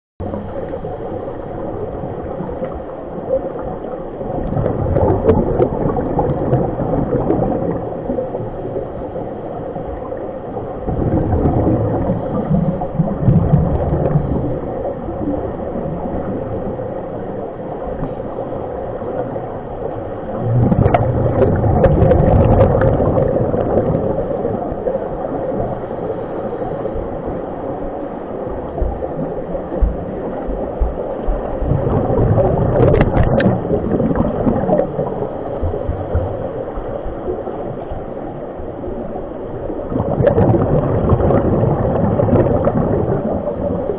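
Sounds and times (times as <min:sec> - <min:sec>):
rumbling bubbles: 0:00.2 - 0:43.9
underwater hum with gurgling: 0:00.2 - 0:43.9.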